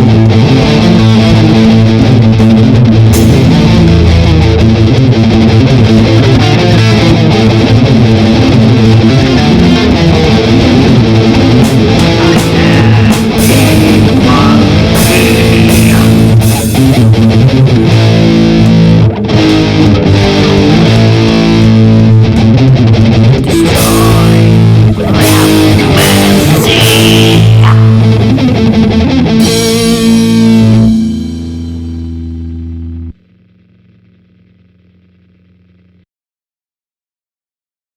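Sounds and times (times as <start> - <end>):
guitar chord ringing: 0.0 - 33.2
distorted electric guitar rock: 0.0 - 36.0.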